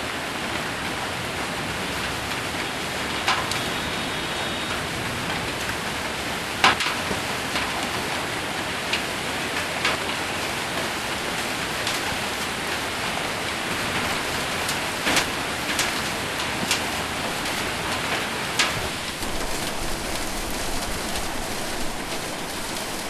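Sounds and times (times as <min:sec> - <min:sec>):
rain and hail on metal roof: 0:00.0 - 0:23.0.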